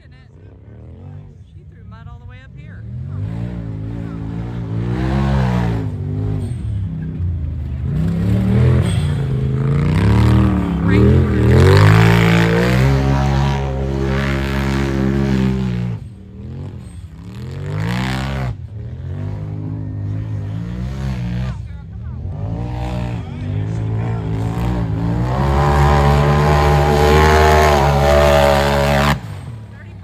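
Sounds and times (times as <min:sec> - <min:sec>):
engines revving: 0:00.0 - 0:30.0.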